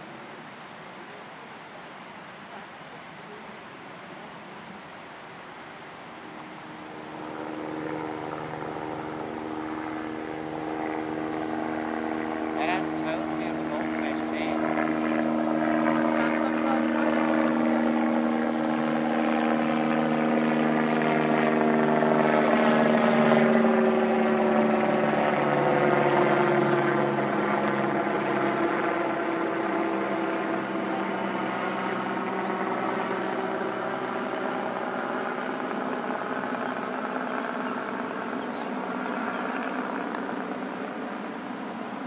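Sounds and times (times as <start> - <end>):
aircraft engine drone passing over: 0.0 - 42.0.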